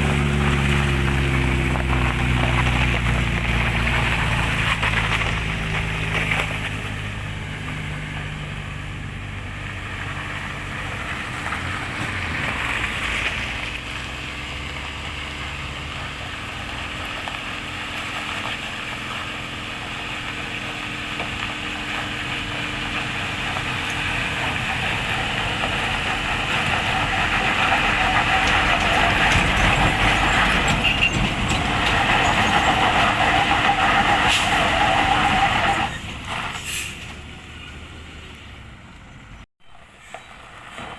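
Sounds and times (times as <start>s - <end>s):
truck diesel engine labouring: 0.0s - 40.9s.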